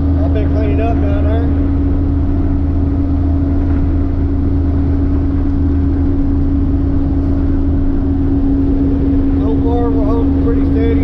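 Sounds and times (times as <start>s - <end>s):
diesel truck engine droning: 0.0s - 11.0s.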